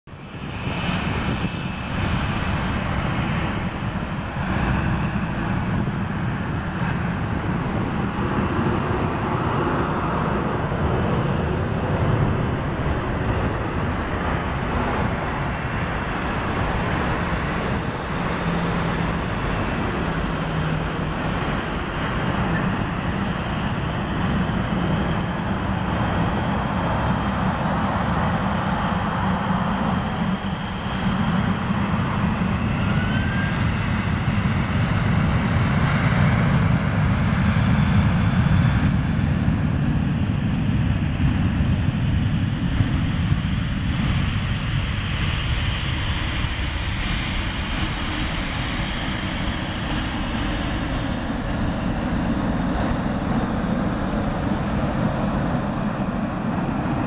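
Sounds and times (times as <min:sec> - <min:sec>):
jet engines whine and rumble: 0:00.0 - 0:57.0.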